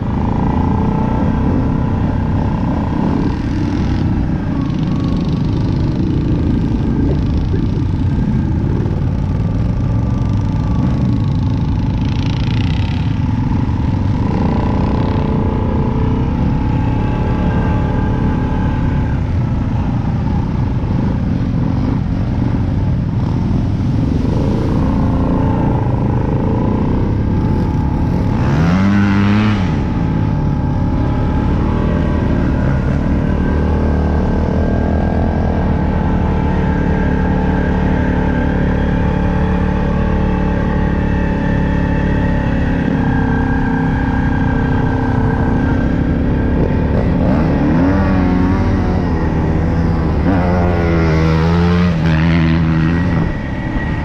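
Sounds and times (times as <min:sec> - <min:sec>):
off-road bike engine: 0:00.0 - 0:54.0.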